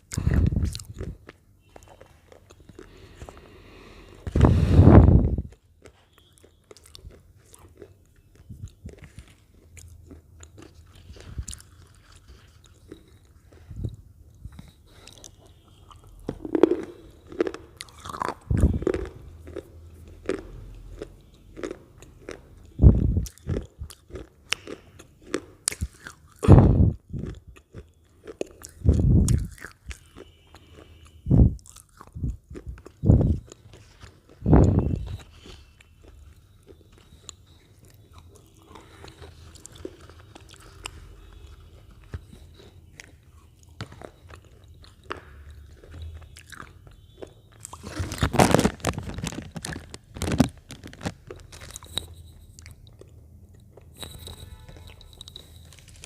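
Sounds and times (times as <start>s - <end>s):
person crunching potato chips: 0.0s - 14.0s, 14.6s - 56.0s.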